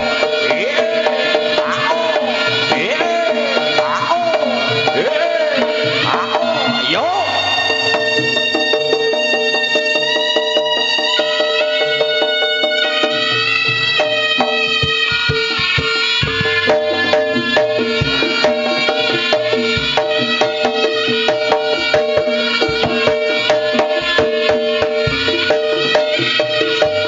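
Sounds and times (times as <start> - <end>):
hand drums: 0.0 - 27.0
steady held tone: 0.0 - 27.0
struck metal percussion: 0.0 - 27.0.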